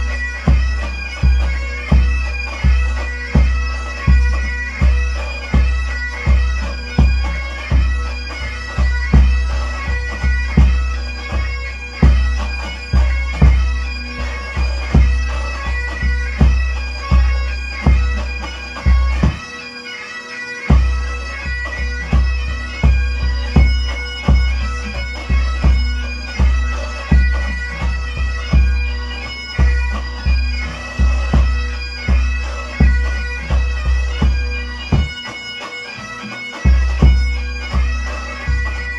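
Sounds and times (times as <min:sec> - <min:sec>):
bagpipes with drone: 0:00.0 - 0:38.9.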